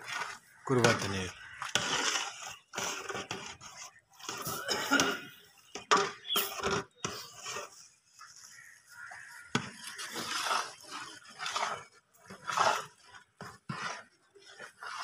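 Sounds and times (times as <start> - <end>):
liquid stirring: 0.0 - 15.0
metal spatula scraping pot: 0.0 - 15.0.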